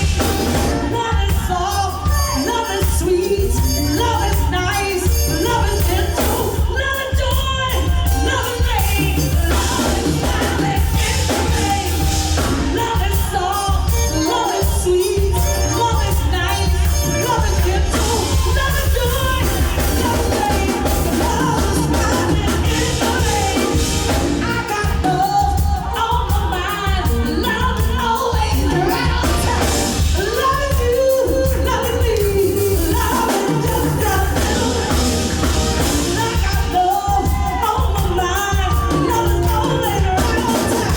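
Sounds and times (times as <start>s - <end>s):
heavy bass line: 0.0s - 2.4s, 3.4s - 14.2s, 15.2s - 26.4s, 27.0s - 30.3s, 32.5s - 40.9s
live band playing: 0.0s - 40.9s
person singing: 0.0s - 40.9s.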